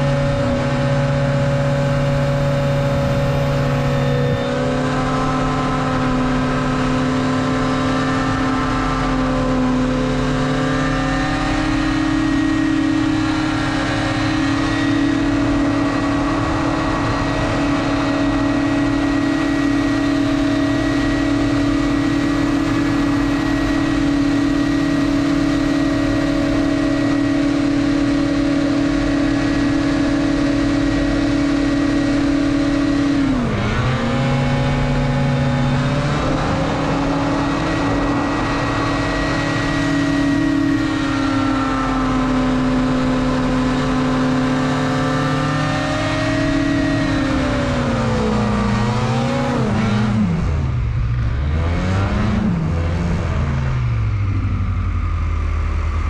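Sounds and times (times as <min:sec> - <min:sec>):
hovercraft engine and fan: 0:00.0 - 0:56.0.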